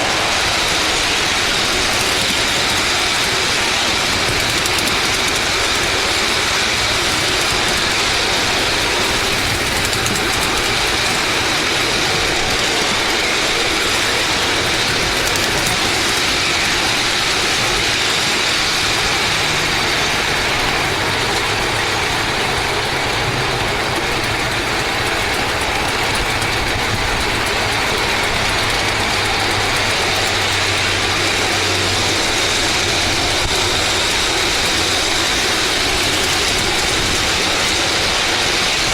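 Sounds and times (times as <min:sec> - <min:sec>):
model train running: 0:00.0 - 0:38.9.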